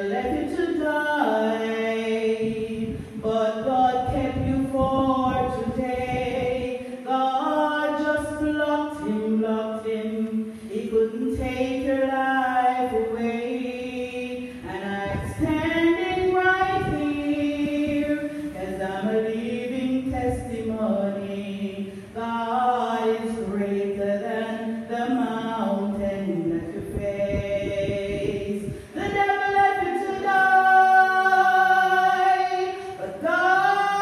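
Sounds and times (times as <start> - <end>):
woman singing slow melody: 0.0 - 34.0.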